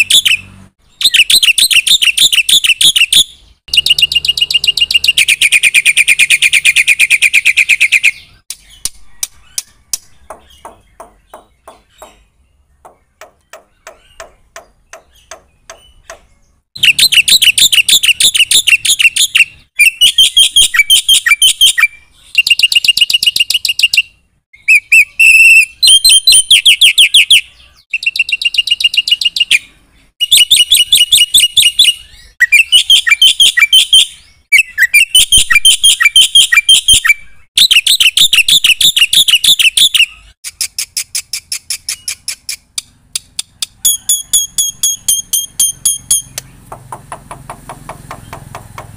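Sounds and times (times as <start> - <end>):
bird singing sharp notes: 0.0 - 46.9.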